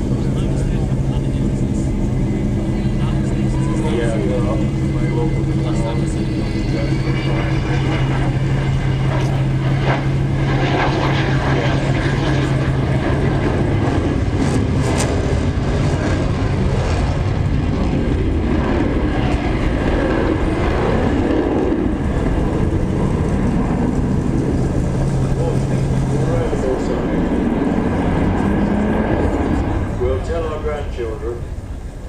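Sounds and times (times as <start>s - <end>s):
aircraft engine running: 0.0s - 32.0s.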